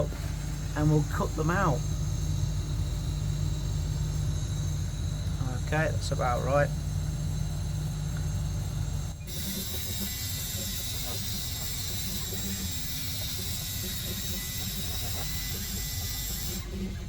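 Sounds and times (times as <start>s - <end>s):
constant low hum: 0.0s - 17.0s
laser cutter hissing: 0.0s - 17.0s.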